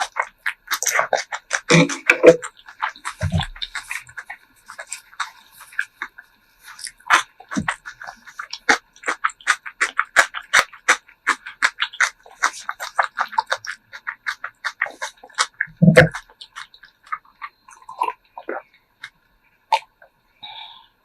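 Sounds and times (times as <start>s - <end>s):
crunchy chewing: 0.0s - 20.2s.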